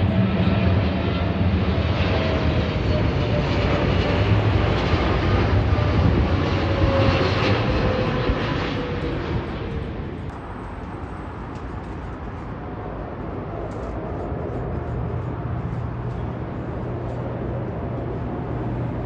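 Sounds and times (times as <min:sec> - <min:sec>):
jet engines rushing and rumbling: 0:00.0 - 0:19.0.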